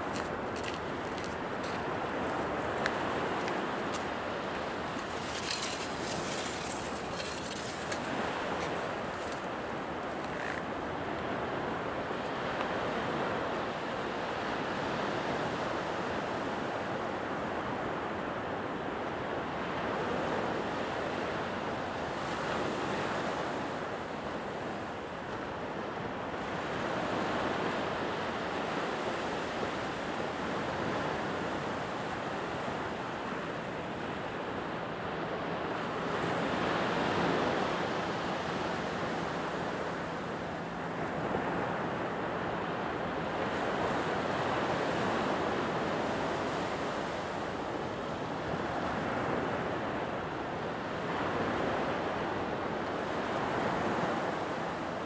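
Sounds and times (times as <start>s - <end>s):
surf washing up a beach: 0.0s - 55.0s.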